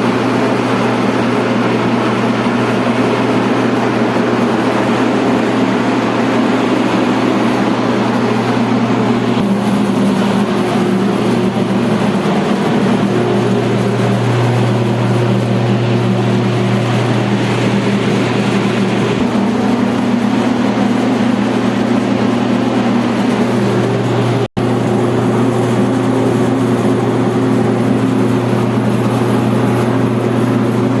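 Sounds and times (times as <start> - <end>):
heavy machinery running: 0.0 - 31.0.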